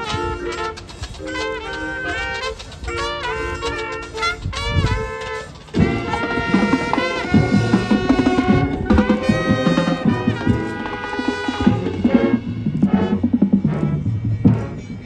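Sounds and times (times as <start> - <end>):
brass chords: 0.0 - 15.0
drumline and percussion hits: 0.0 - 15.0.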